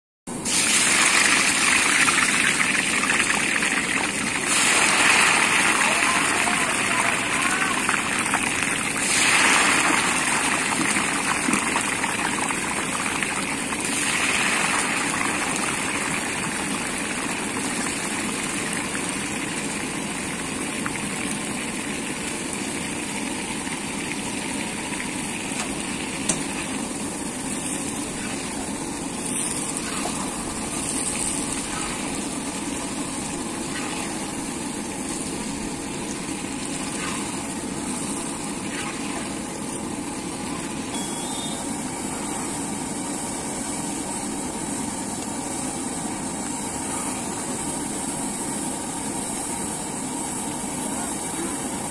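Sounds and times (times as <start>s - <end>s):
deep-frying sizzling and bubbling: 0.3s - 51.9s.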